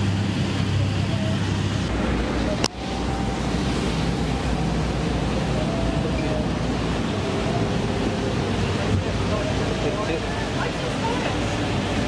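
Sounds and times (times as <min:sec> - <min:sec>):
low engine drone: 0:00.0 - 0:12.0
wind and water rushing: 0:00.0 - 0:12.0.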